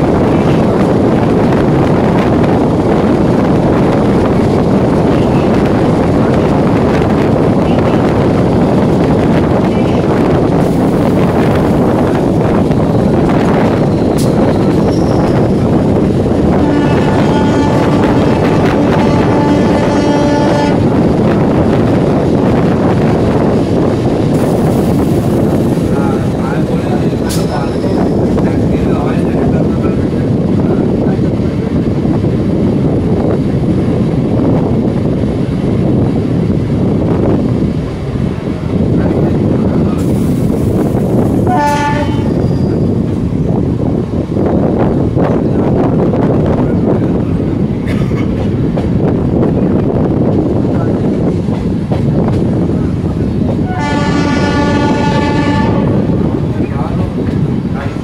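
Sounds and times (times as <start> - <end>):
train rumble: 0.0 - 58.0
wind on microphone: 0.0 - 58.0.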